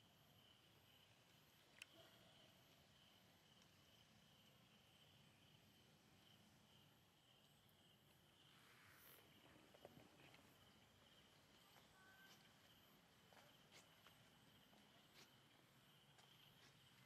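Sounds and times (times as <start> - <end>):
faint insect drone: 0.0 - 17.0.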